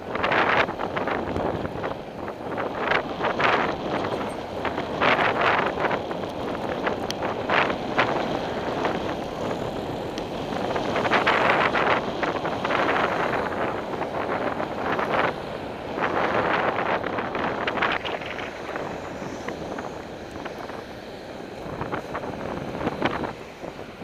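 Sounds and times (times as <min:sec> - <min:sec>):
road and traffic noise: 0:00.0 - 0:24.0
wind on microphone: 0:00.0 - 0:24.0.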